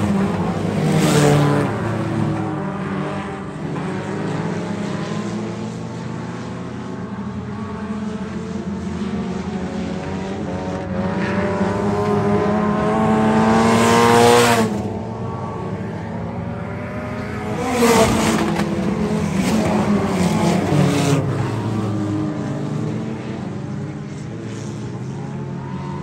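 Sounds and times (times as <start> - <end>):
race car accelerating: 0.0 - 26.0
race car passing: 0.0 - 26.0
several race car engines running: 0.0 - 26.0.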